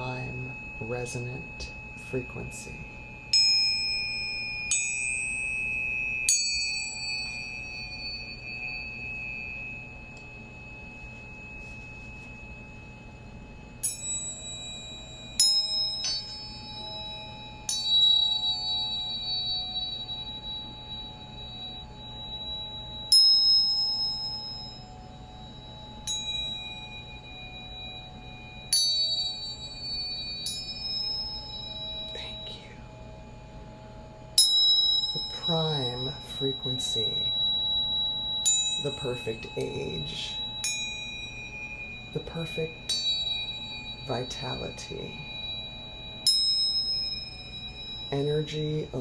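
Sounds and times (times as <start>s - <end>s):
small metal bells ringing: 0.0s - 49.0s.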